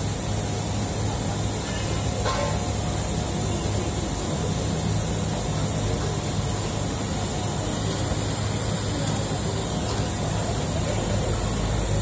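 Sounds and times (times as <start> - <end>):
jet machinery hum and whine: 0.0 - 12.0.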